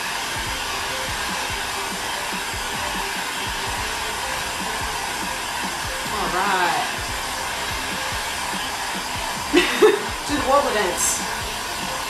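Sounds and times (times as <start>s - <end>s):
heat gun blowing air: 0.0s - 12.0s.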